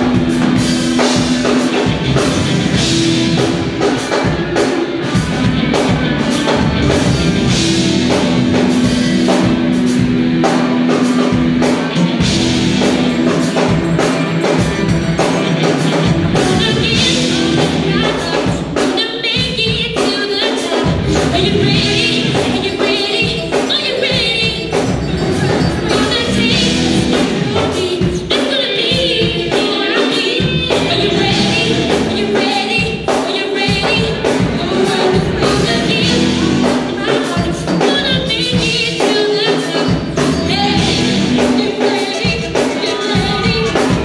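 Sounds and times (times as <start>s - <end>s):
drum kit steady beat: 0.0s - 44.0s
voices singing: 0.0s - 44.0s.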